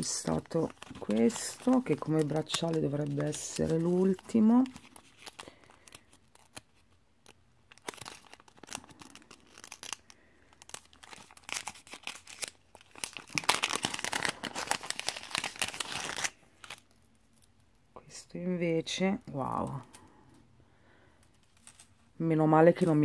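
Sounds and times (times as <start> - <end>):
plastic crinkling and tearing: 0.0 - 17.6, 21.2 - 22.1.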